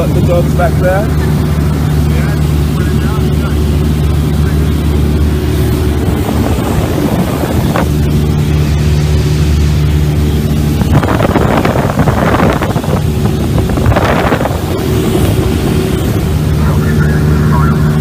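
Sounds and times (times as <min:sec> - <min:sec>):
aircraft engine droning: 0:00.0 - 0:18.0.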